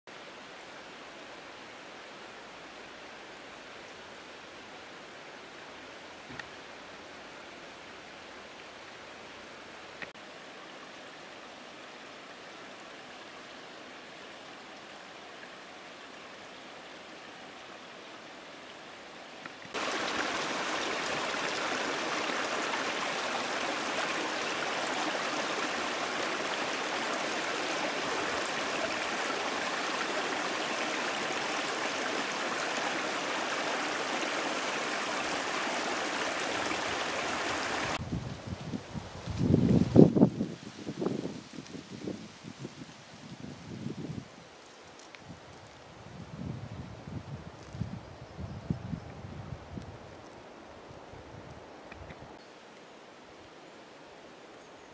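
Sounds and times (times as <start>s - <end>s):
stream running over stones: 0.1s - 47.9s
faint forest hiss: 0.1s - 54.9s.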